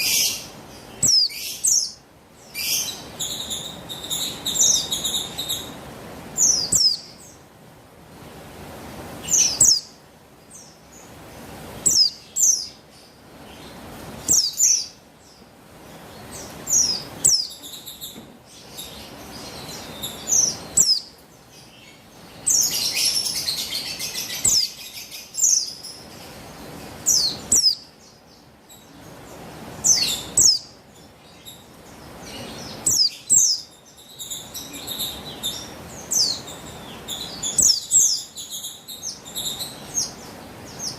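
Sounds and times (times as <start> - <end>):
bird high chirps: 0.0 - 5.8, 6.4 - 7.4, 9.2 - 11.1, 11.8 - 15.4, 16.0 - 29.1, 29.8 - 40.9.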